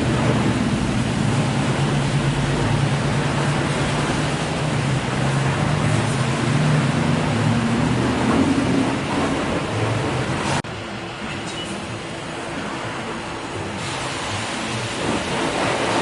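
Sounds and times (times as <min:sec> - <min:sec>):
spraying water and brushes: 0:00.0 - 0:10.6, 0:13.8 - 0:16.0.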